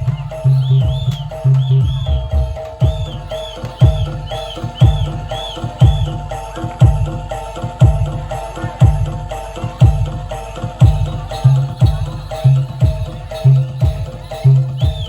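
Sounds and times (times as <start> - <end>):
low drum beats: 0.0 - 15.0
ringing metallophone notes: 0.0 - 15.0.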